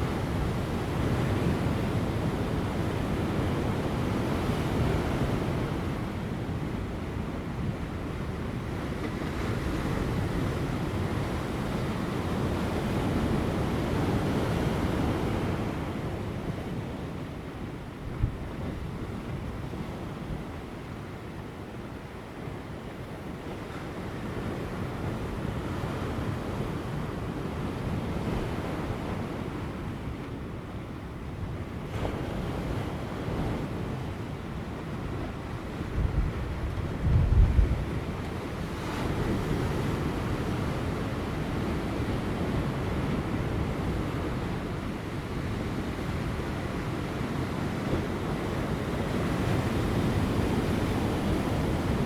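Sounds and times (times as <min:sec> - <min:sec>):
light wind: 0:00.0 - 0:52.0.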